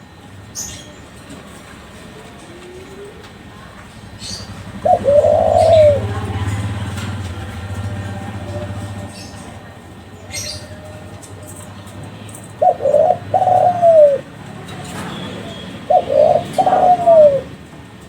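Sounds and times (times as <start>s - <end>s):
dove cooing: 0.6s - 18.0s.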